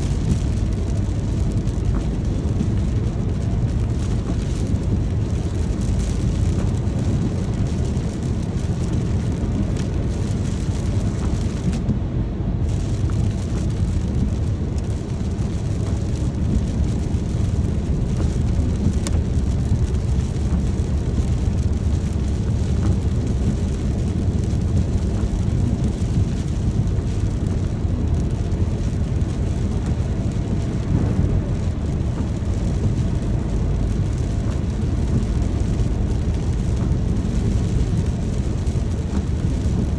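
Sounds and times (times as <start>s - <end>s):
low rumble: 0.0s - 39.9s
steady rain: 0.0s - 39.9s.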